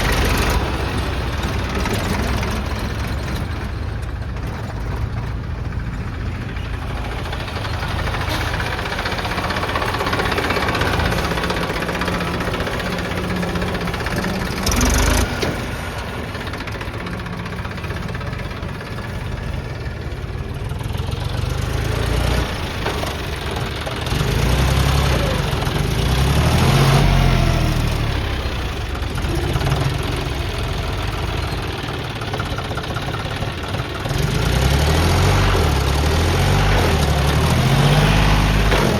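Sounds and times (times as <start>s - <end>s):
heavy diesel engines revving: 0.0s - 38.9s.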